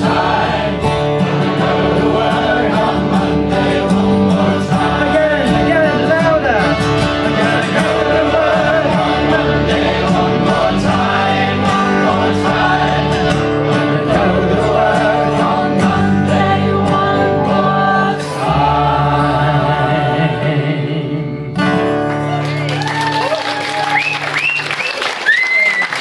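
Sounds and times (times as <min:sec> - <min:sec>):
voices singing together: 0:00.0 - 0:21.6
double bass: 0:00.0 - 0:22.4
strummed acoustic guitar: 0:00.0 - 0:22.7.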